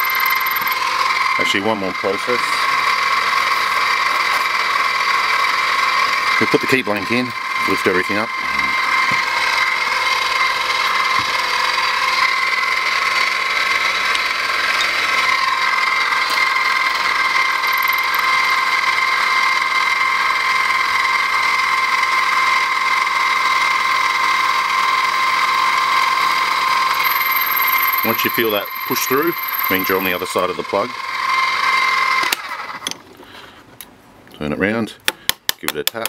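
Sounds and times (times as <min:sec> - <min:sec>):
drill bit cutting brass: 0:00.0 - 0:33.0
mill spindle whining: 0:00.0 - 0:33.0.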